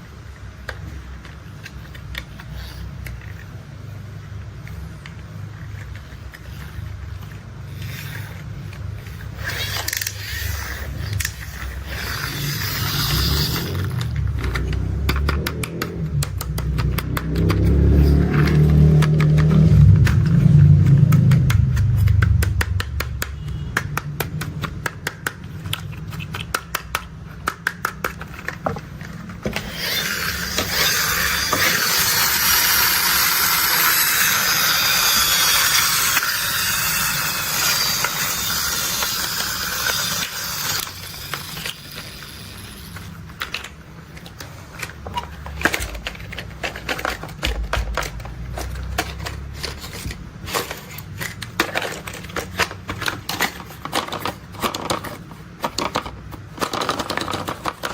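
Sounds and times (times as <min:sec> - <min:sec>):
plastic toys clicking and rattling: 0:00.3 - 0:57.9.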